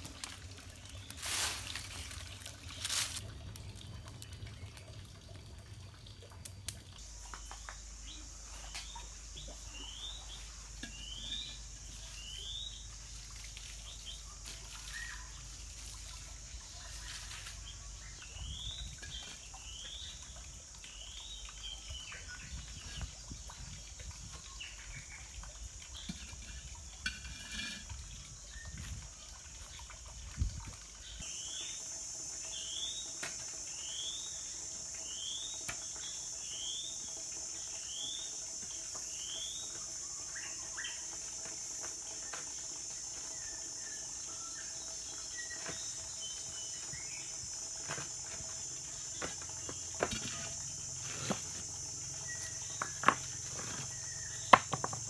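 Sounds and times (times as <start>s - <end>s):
water sloshing in a jar: 0.0s - 34.1s, 44.8s - 55.0s
high insect drone: 7.0s - 55.0s.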